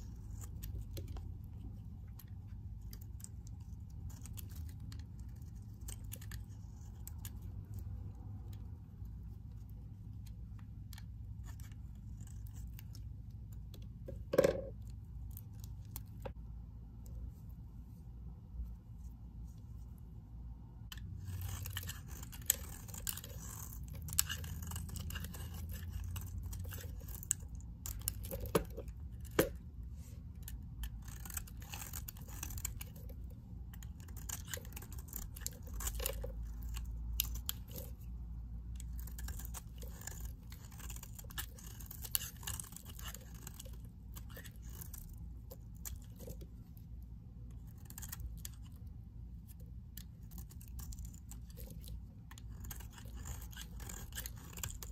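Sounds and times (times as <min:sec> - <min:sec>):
blade scraping soap: 0:00.0 - 0:16.3, 0:20.9 - 0:46.8, 0:47.5 - 0:54.9.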